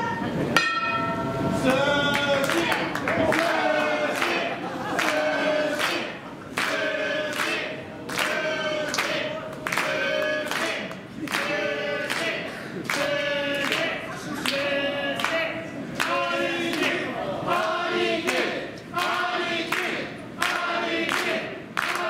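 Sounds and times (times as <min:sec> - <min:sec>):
crowd chanting in unison: 0:01.6 - 0:22.0
hand claps: 0:02.1 - 0:15.4, 0:16.0 - 0:17.0, 0:18.2 - 0:22.0.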